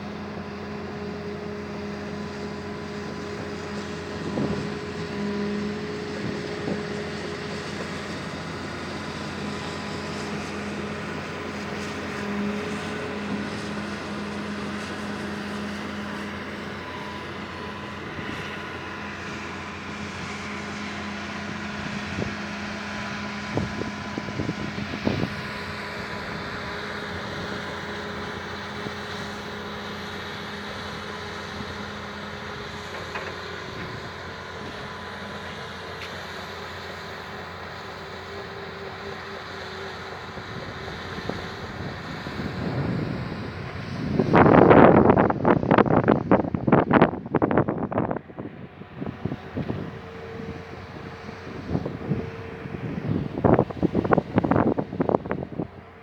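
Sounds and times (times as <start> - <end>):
excavator engines running: 0.0 - 56.0
wind rumbling on microphone: 2.3 - 35.7, 40.0 - 56.0.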